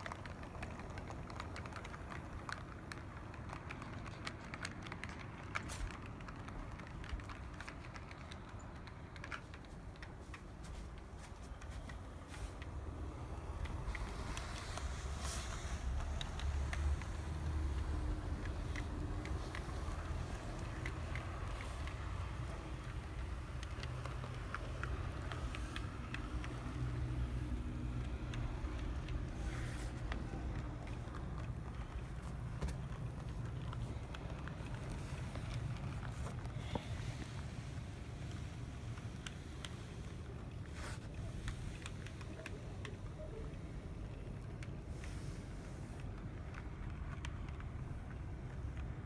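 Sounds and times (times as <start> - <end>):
model train wheels clicking: 0.0 - 49.0.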